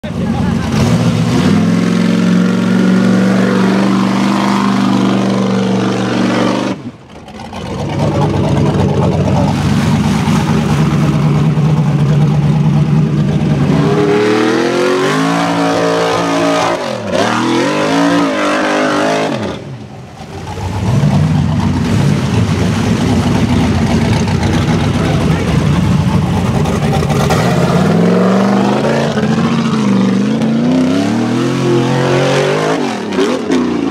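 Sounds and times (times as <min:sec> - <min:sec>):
buggy engine revving: 0:00.0 - 0:33.9.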